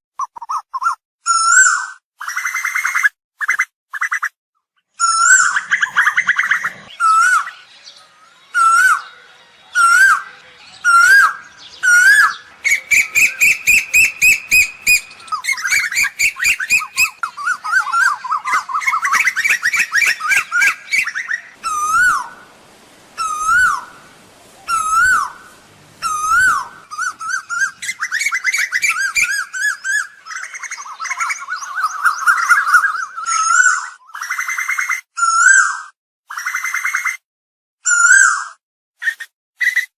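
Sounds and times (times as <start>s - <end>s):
bird whistled calls: 5.0s - 37.2s, 37.8s - 39.9s.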